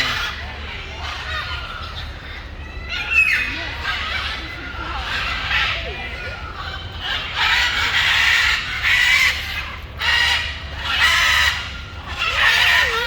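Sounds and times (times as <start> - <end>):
birds squawking harshly: 0.0 - 13.0.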